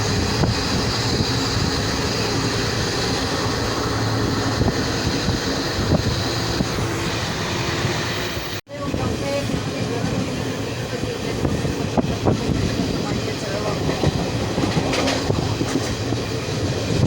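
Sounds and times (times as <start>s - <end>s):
train wheels rumbling: 0.0s - 17.0s
wind on microphone: 0.0s - 17.0s.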